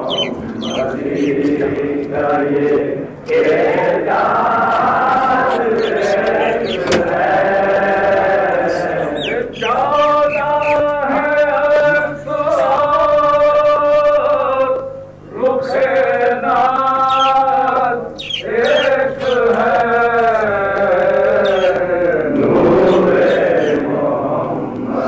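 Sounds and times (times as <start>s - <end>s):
person chanting: 0.0s - 25.0s.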